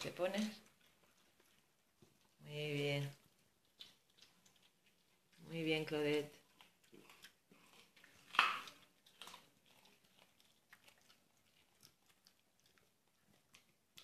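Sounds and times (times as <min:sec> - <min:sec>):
dog crunching carrot: 0:00.0 - 0:14.0.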